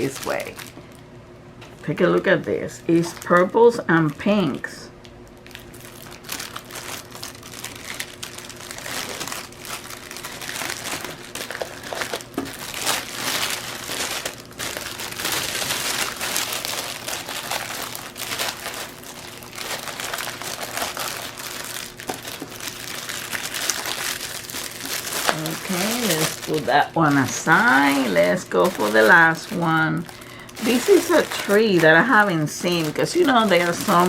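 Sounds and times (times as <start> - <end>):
plastic packaging crinkling: 0.0 - 1.1, 1.7 - 34.0.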